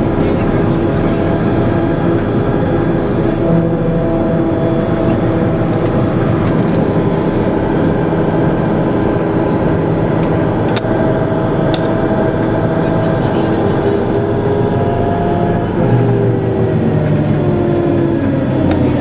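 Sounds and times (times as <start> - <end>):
diesel engine drone: 0.0 - 19.0.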